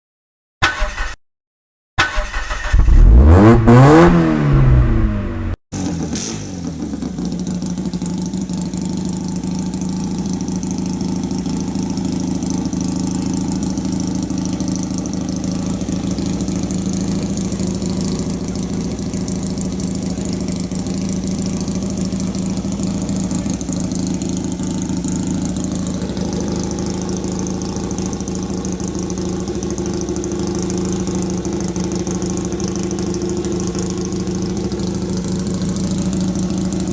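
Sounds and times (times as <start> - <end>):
race car engine revving: 2.4 - 8.1, 9.8 - 36.9
car engine idling: 2.4 - 36.9.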